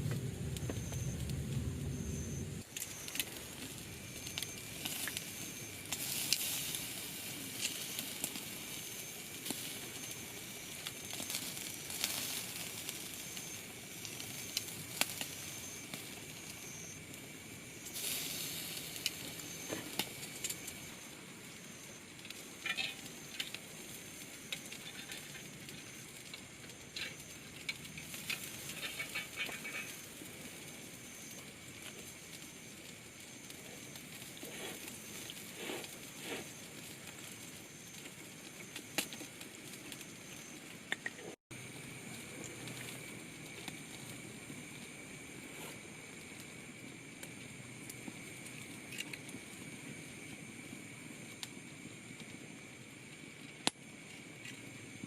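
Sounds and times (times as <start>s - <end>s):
campfire hissing: 0.0s - 55.0s
fire crackling and popping: 0.0s - 55.0s.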